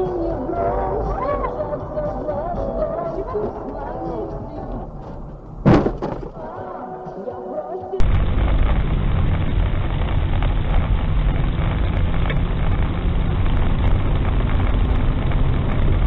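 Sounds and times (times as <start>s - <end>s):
car engine and road rumble: 0.0s - 6.6s, 8.0s - 16.0s.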